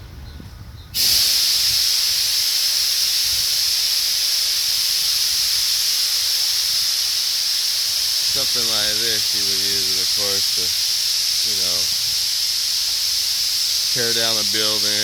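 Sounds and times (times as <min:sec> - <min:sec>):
loud steady hiss: 0:00.9 - 0:15.0.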